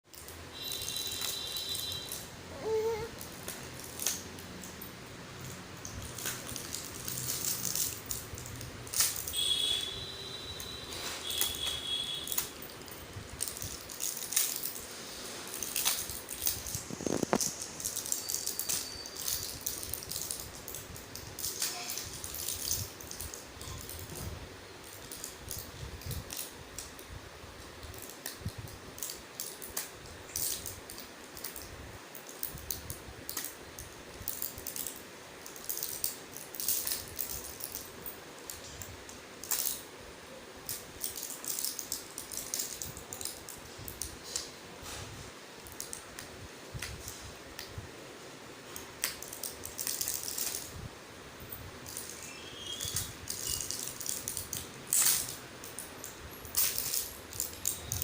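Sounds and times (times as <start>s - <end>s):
small hard objects clicking and rattling: 0.1s - 39.9s, 40.6s - 47.8s, 48.7s - 58.0s.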